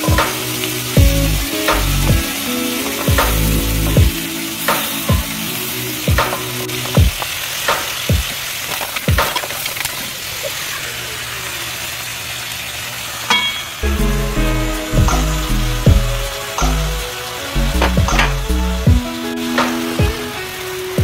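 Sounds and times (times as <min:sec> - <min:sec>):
seafood sizzling in a wok: 0:00.0 - 0:21.0.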